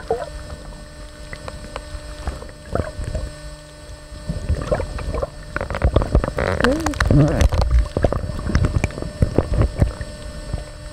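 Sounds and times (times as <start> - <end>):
faint steady hum: 0.0 - 10.9
underwater rumbling and bubbling: 0.0 - 10.9.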